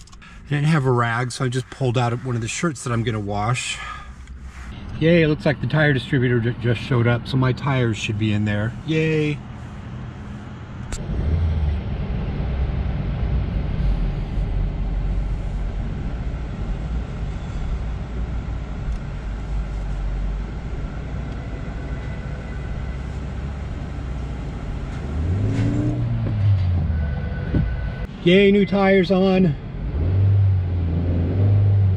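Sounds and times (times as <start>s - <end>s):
car engine rumble from cabin: 0.0s - 31.9s.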